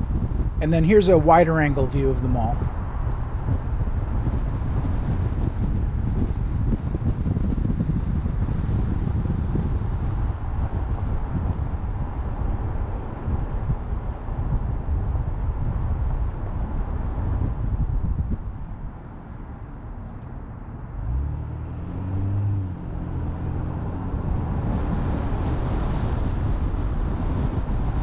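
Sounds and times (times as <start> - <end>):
wind buffeting microphone: 0.0 - 19.6, 20.8 - 28.0.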